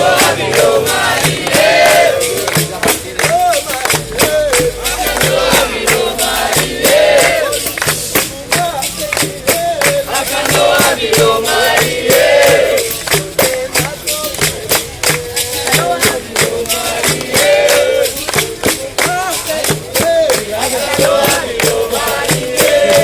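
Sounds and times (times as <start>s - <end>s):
berimbau and percussion: 0.0s - 23.0s
group singing: 0.0s - 23.0s.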